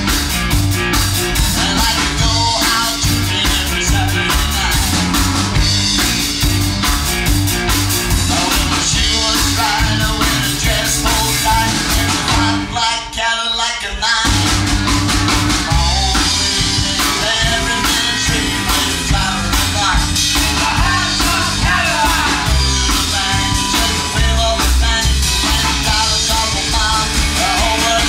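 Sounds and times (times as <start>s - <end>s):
rockabilly band music: 0.0s - 28.0s.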